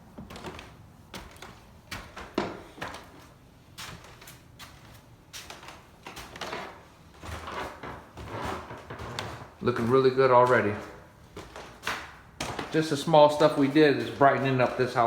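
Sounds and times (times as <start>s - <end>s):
footsteps on protective sheeting: 0.0s - 15.0s.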